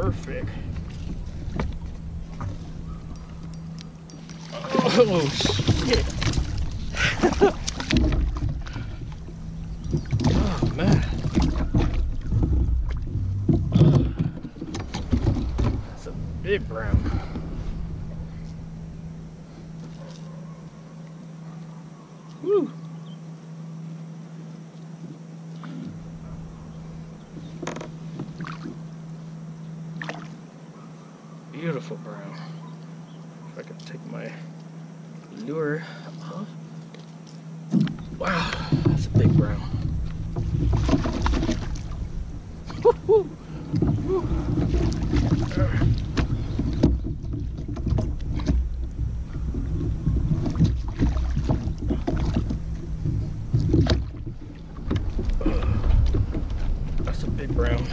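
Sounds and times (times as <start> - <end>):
steady low hum: 0.0 - 57.9
water and wind rumble: 0.0 - 57.9.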